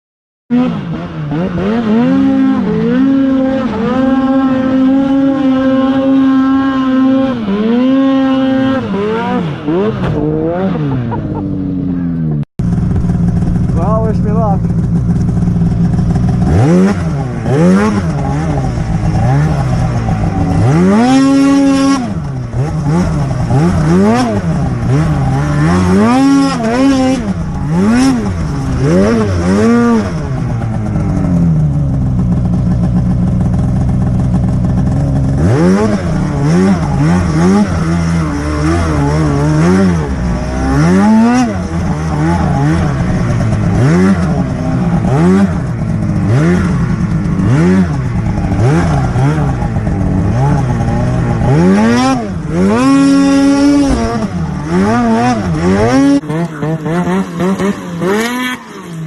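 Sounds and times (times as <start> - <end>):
snowmobile engine revving: 0.5 - 59.0.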